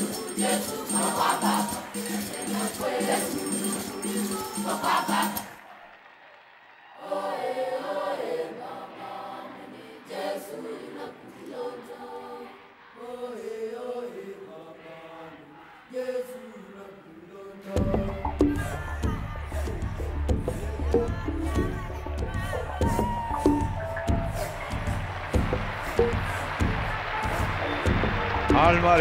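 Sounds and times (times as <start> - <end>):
choir singing a slow chant: 0.0 - 5.9, 6.9 - 28.6.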